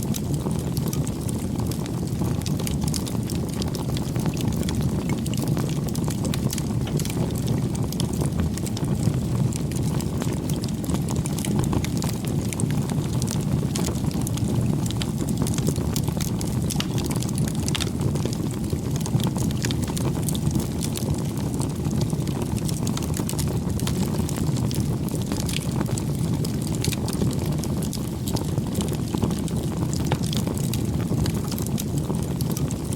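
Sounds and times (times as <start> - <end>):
campfire flames rushing: 0.0 - 32.9
fire crackles and pops: 0.0 - 32.9.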